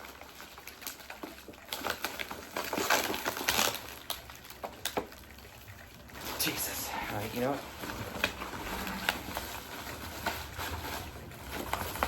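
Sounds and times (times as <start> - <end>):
packaging torn and crinkled: 0.0 - 12.0.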